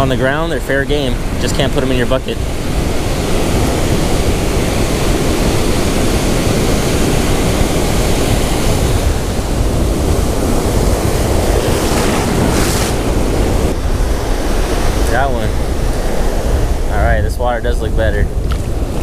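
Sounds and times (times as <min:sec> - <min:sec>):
ocean surf breaking on beach: 0:00.0 - 0:19.0
wind buffeting microphone: 0:00.0 - 0:19.0.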